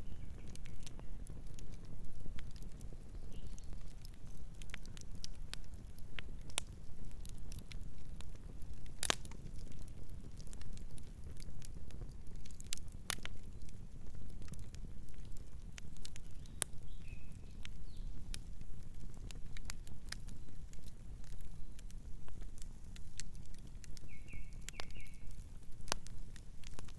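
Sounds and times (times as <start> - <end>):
low rumble of flames: 0.0 - 26.9
wood crackling and popping: 0.0 - 26.9.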